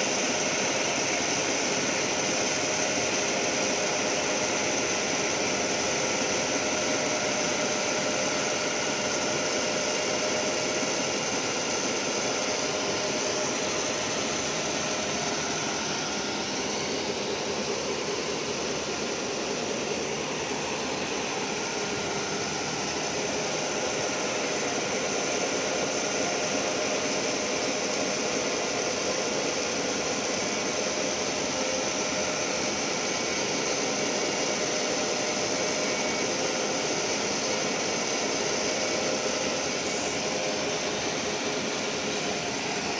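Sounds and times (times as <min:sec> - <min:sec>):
high grinding whine: 0:00.1 - 0:42.9.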